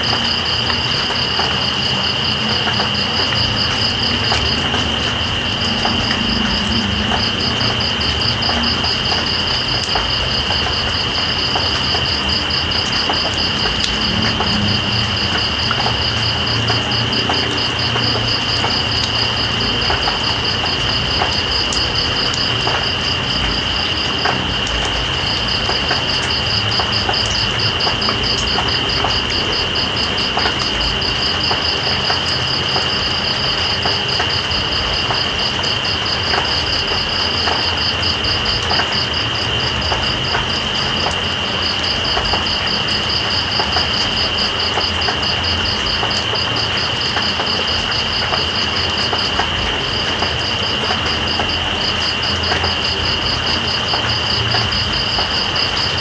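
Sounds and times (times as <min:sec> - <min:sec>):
crickets trilling: 0:00.0 - 0:56.0
rain hissing: 0:00.0 - 0:56.0
water drips: 0:00.0 - 0:56.0.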